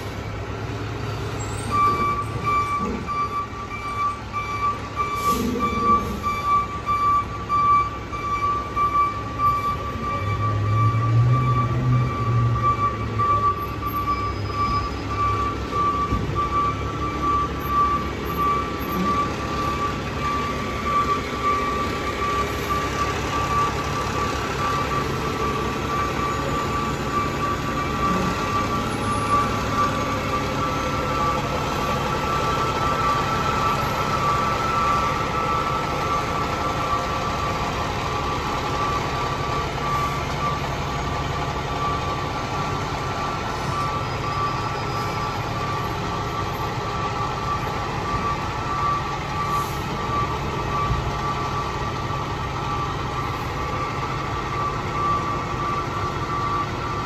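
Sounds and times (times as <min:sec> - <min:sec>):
fire truck diesel engine rumbling: 0:00.0 - 0:57.0.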